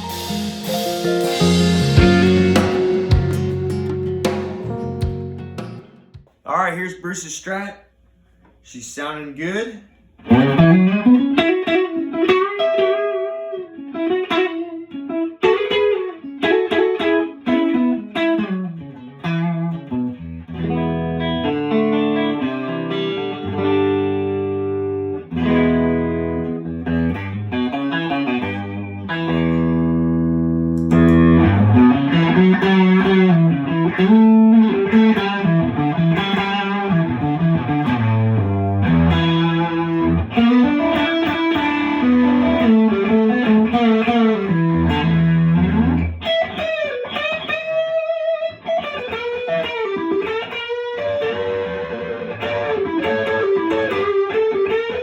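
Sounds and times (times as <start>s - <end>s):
electric guitar playing: 0.0s - 6.3s, 10.2s - 55.0s.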